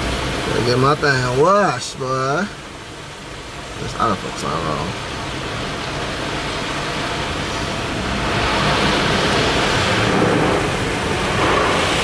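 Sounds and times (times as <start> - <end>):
water spraying onto car: 0.0 - 12.0.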